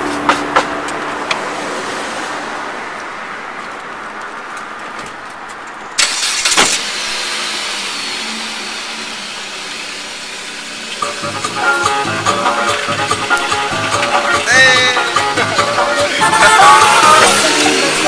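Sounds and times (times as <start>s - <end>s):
outdoor noise: 0.0s - 18.0s.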